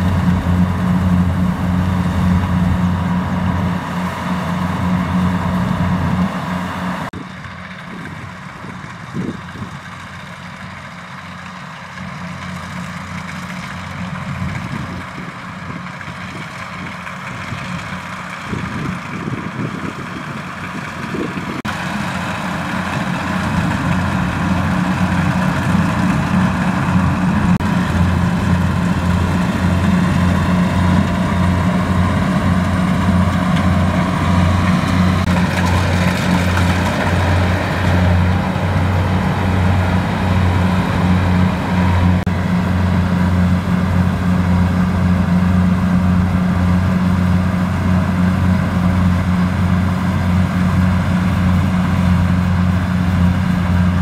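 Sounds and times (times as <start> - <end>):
cutting and threshing machinery: 0.0 - 54.0
diesel engine drone: 0.0 - 54.0.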